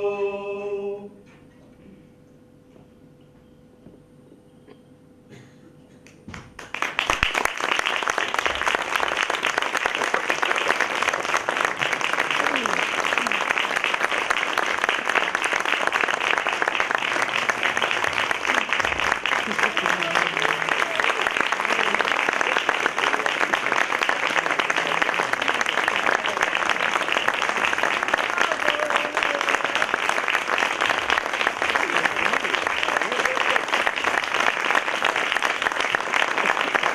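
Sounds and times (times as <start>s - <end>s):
audience applauding: 6.1s - 36.9s.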